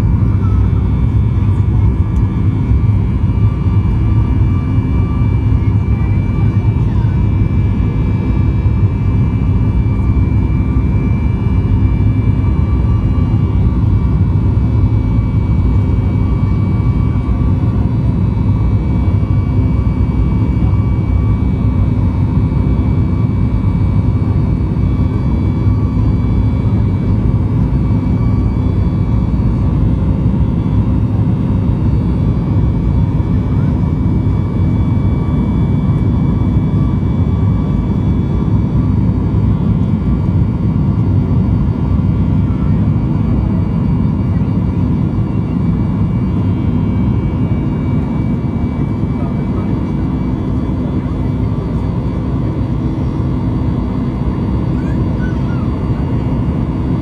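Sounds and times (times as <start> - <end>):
jet engine and airflow drone: 0.0 - 57.0.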